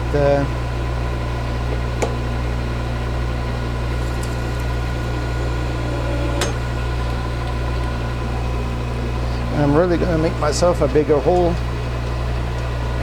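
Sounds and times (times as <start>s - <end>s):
lathe motor hum: 0.0s - 13.0s.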